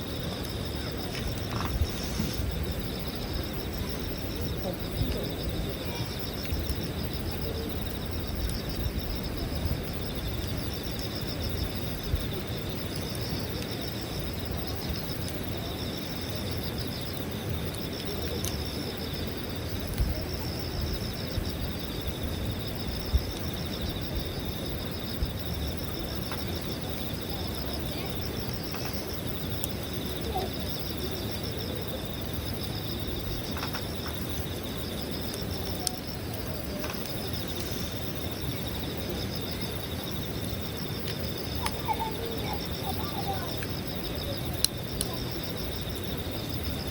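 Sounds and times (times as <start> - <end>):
campfire crackling and popping: 0.0 - 46.9
insects chirping: 0.0 - 46.9.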